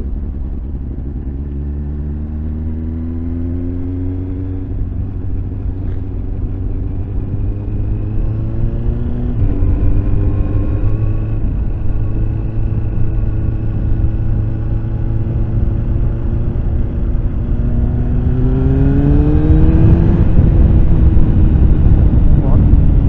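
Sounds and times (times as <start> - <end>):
low wind rumble: 0.0 - 23.0.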